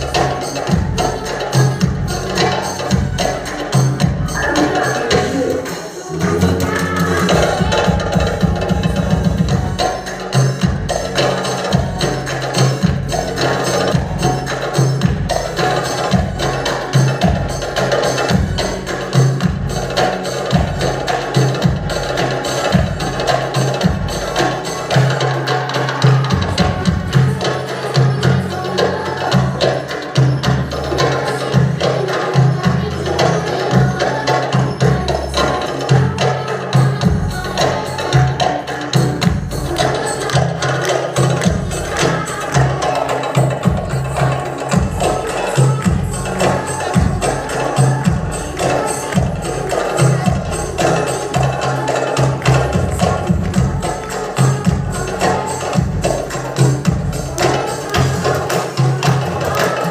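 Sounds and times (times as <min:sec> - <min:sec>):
music: 0:00.0 - 0:59.9
tabla playing quick rhythm: 0:00.0 - 0:59.9.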